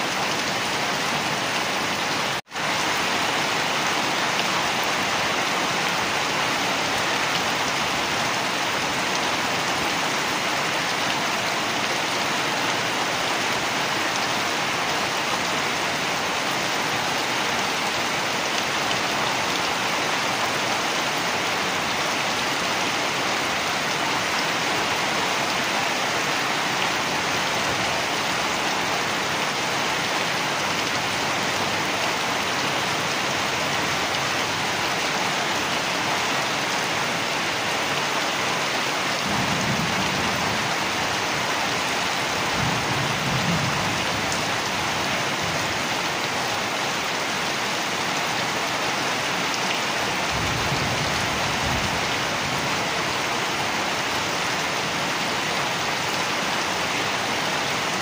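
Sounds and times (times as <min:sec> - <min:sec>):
heavy rain on leaves: 0:00.0 - 0:58.0.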